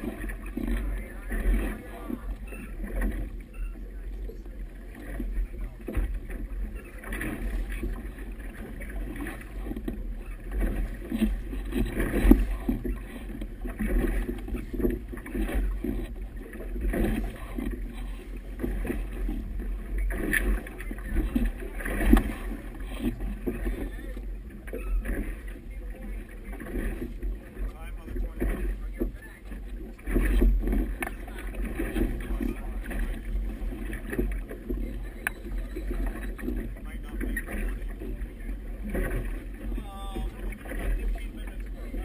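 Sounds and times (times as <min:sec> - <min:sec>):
water splashing against boat hull: 0:00.0 - 0:42.0.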